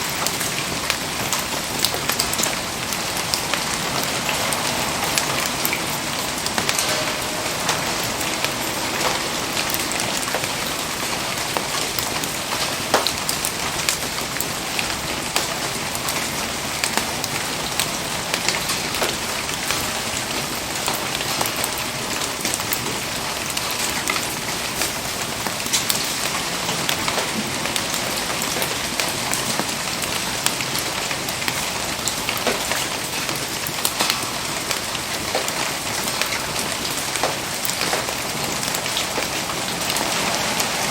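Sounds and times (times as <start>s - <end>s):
rain falling: 0.0s - 40.9s
raindrops ticking: 0.0s - 40.9s.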